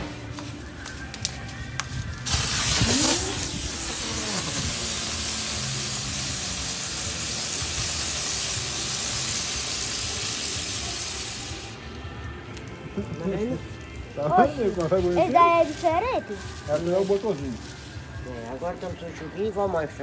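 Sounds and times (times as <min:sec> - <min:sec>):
firework fountain hissing: 0:00.0 - 0:20.0.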